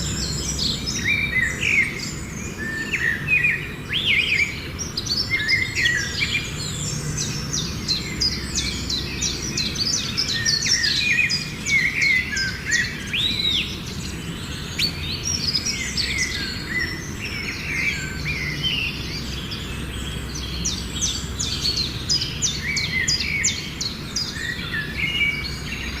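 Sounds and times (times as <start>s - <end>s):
small birds chirping and singing: 0.0s - 26.0s.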